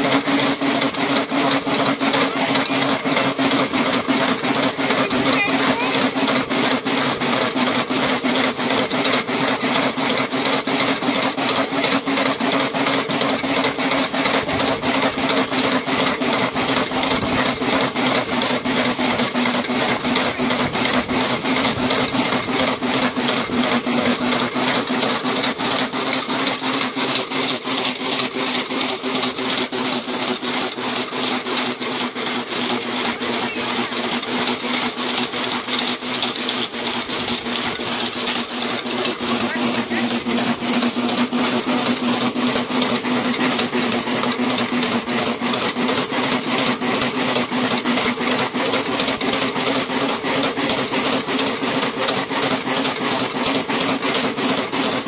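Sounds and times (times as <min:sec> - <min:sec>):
treadmill belt humming: 0:00.0 - 0:55.0.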